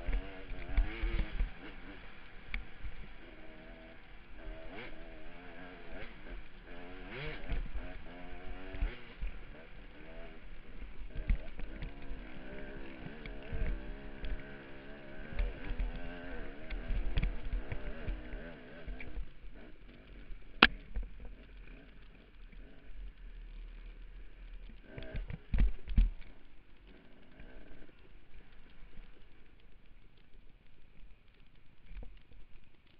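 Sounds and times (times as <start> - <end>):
dirt bike engine revving: 0.0 - 29.4.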